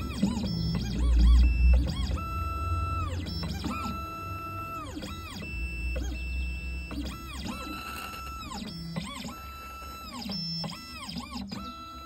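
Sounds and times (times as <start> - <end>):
stepper motors whining: 0.0 - 12.0.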